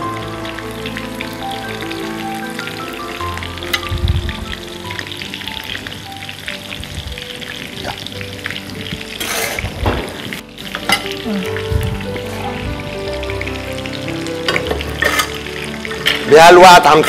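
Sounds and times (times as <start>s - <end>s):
food frying in oil: 0.0s - 17.0s
soft background music: 0.0s - 17.0s.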